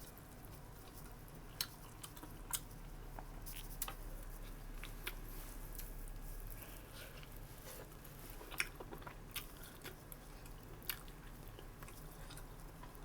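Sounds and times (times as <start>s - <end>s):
person chewing food: 0.8s - 13.0s.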